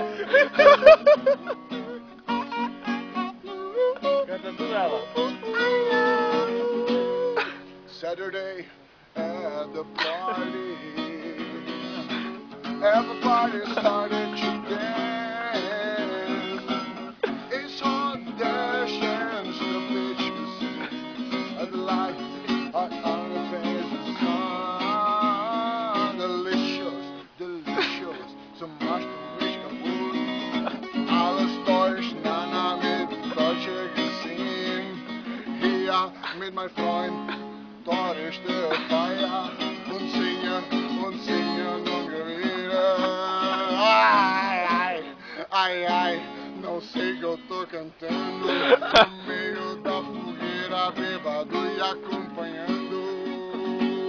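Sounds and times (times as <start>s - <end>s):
man singing: 0.0s - 2.6s, 3.4s - 54.0s
acoustic guitar strummed: 0.0s - 54.0s.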